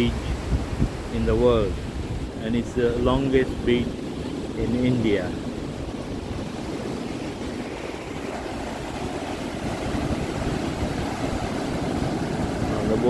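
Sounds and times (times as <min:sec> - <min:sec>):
sea surf breaking on beach: 0:00.0 - 0:13.0
wind rumbling on microphone: 0:00.0 - 0:13.0.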